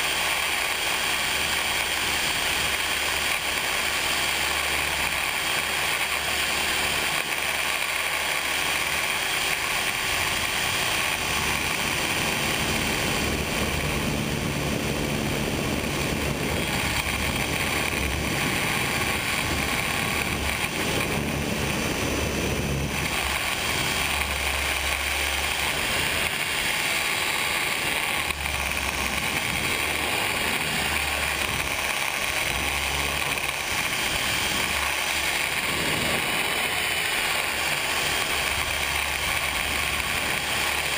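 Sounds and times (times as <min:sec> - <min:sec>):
model helicopter rotor whine: 0:00.0 - 0:40.9.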